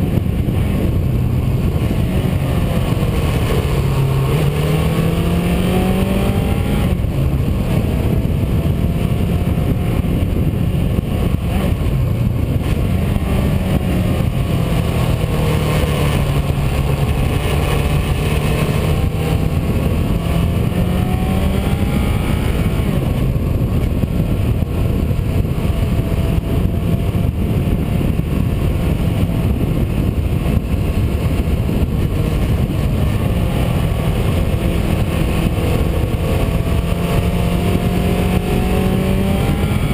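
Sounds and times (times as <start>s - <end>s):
car engine revving: 0.0s - 39.9s
road and wind noise: 0.0s - 39.9s.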